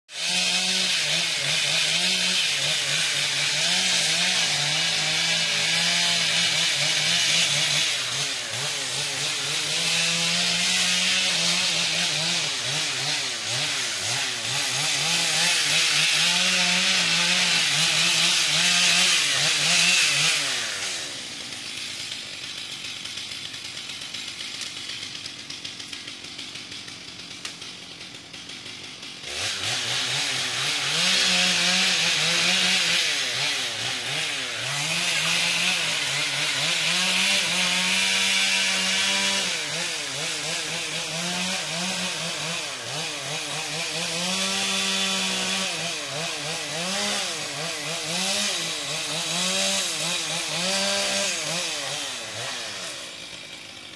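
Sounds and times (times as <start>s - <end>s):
chainsaw cutting brush: 0.1s - 53.9s.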